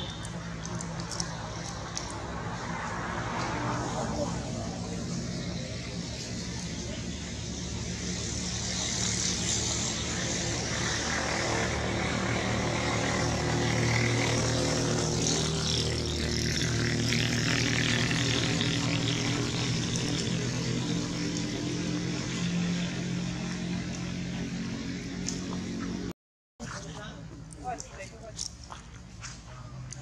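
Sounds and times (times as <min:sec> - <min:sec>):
engine-like drone: 0:00.0 - 0:30.0.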